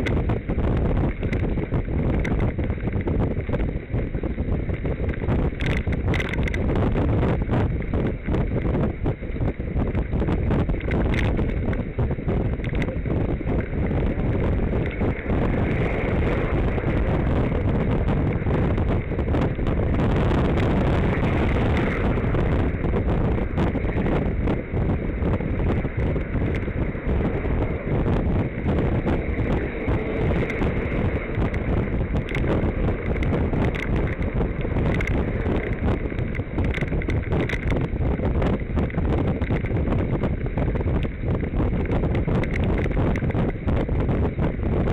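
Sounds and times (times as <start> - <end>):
small clicks and rattles: 0.0 - 3.7, 4.6 - 44.9
wind buffeting microphone: 0.0 - 44.9.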